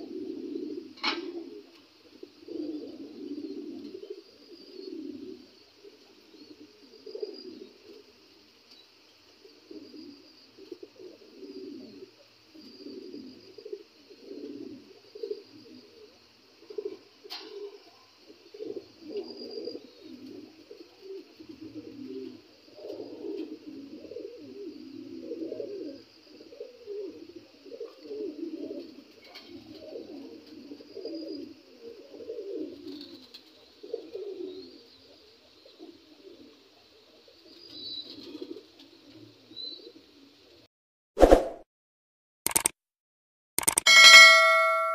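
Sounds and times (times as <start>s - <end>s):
pigeons cooing: 0.0s - 40.7s.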